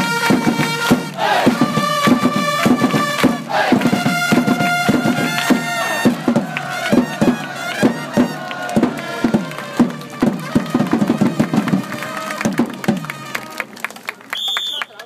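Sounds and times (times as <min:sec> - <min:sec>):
trumpet playing cheer melody: 0:00.0 - 0:13.6
crowd clapping in a steady beat: 0:00.0 - 0:15.0.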